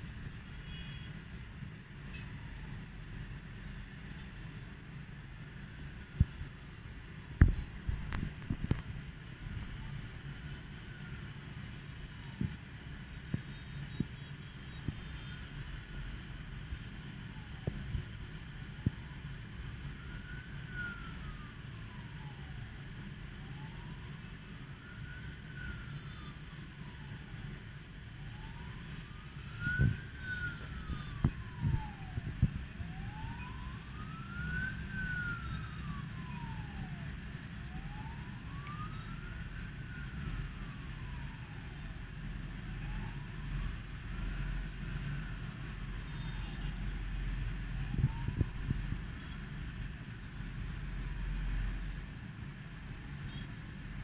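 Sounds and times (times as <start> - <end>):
street traffic rumble: 0.0 - 54.0
emergency siren wailing: 0.7 - 4.6, 7.4 - 52.5.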